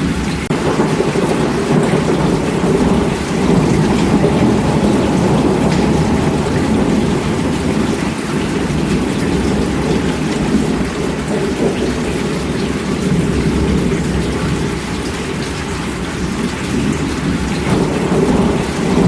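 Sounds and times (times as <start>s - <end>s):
heavy rain: 0.0s - 19.0s
low rumble of thunder: 0.0s - 19.0s.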